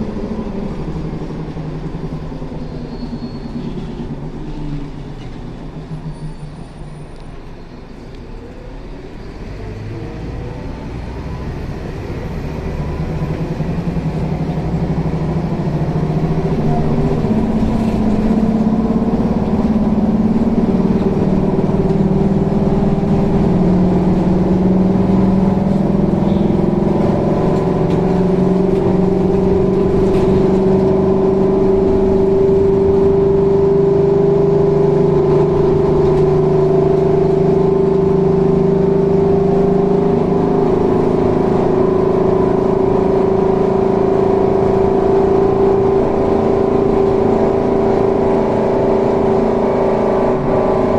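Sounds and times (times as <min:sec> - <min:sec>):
bus engine running: 0:00.0 - 0:50.9.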